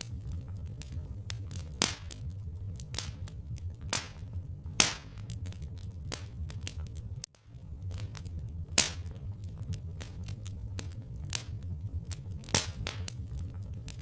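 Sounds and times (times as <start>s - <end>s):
steady low rumble: 0.0s - 14.0s
wood fire crackling: 0.0s - 14.0s.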